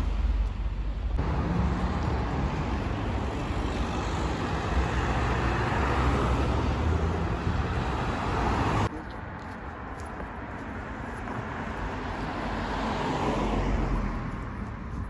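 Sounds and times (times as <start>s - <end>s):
cars driving past: 0.0s - 8.9s, 10.8s - 15.0s.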